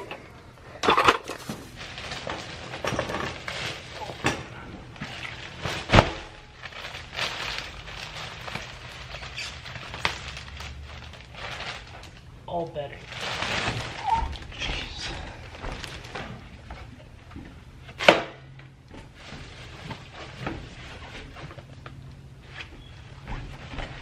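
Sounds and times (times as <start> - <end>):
rummaging through belongings: 0.0 - 18.1, 18.9 - 24.0.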